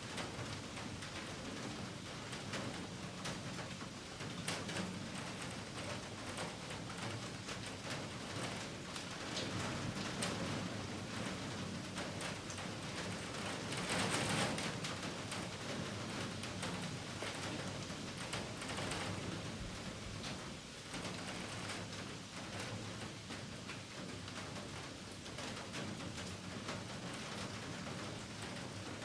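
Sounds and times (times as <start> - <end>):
heavy rain falling: 0.1 - 29.0.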